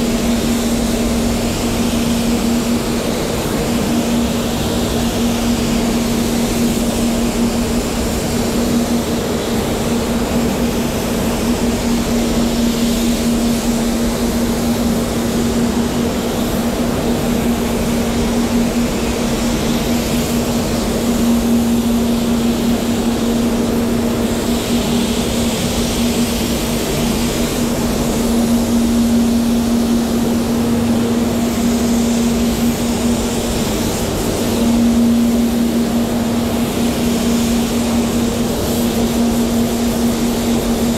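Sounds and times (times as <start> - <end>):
spray gun hissing: 0.0 - 40.9
steady droning hum: 0.0 - 40.9.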